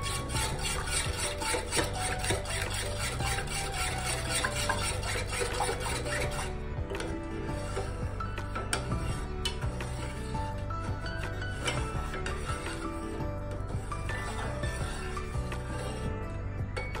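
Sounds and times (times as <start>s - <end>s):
spoon stirring in a steel saucepan: 0.0s - 16.1s
background music: 0.0s - 17.0s.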